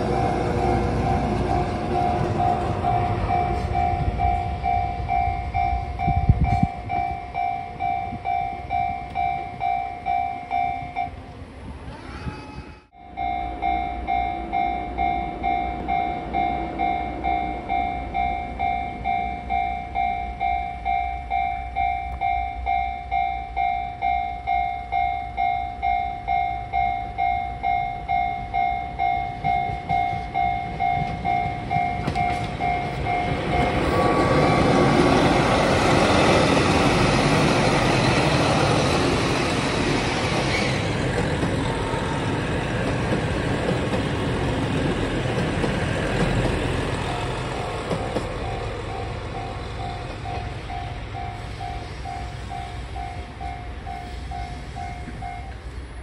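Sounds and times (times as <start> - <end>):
level-crossing bell ringing: 0.0 - 11.2, 12.9 - 38.9, 47.0 - 55.6
diesel train passing: 0.0 - 56.0.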